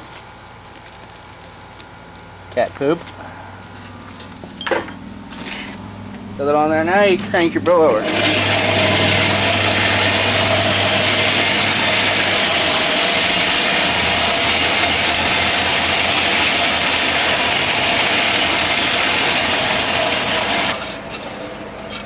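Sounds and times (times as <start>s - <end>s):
forge blower rushing air: 0.0s - 22.0s.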